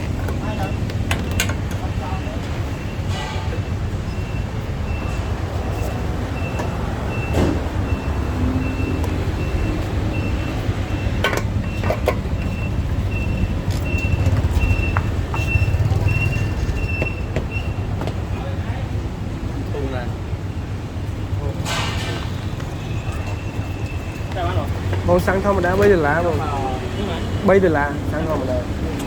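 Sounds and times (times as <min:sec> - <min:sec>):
motorcycle engine and road rumble: 0:00.0 - 0:29.0.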